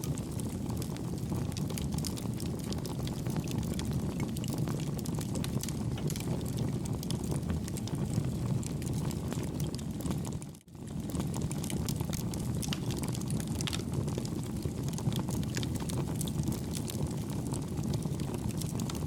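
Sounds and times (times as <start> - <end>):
campfire flames rumbling: 0.0 - 19.0
soft crackles and pops: 0.0 - 19.0.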